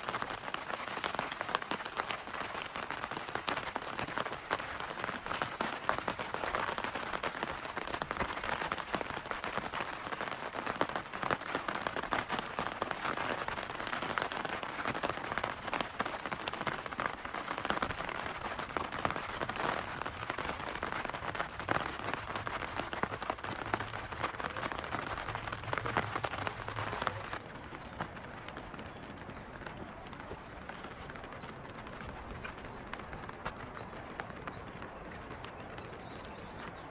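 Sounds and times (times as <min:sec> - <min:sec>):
rain patter on surface: 0:00.0 - 0:36.9.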